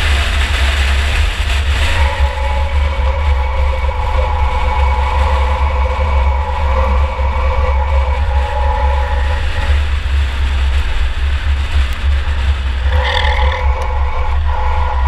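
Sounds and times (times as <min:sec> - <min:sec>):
car engine and road rumble: 0:00.0 - 0:15.0
high-pitched squeal: 0:00.0 - 0:15.0.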